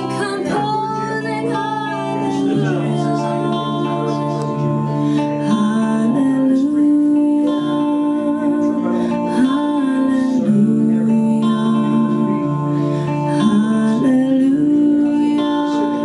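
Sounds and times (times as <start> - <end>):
slow gliding melody: 0.0 - 16.0
strummed acoustic guitar: 0.0 - 16.0.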